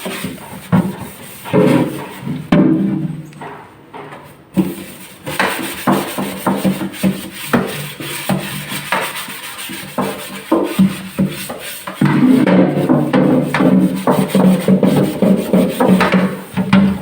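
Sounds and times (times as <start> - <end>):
scouring pad scrubbing: 0.0 - 2.5, 4.6 - 17.0.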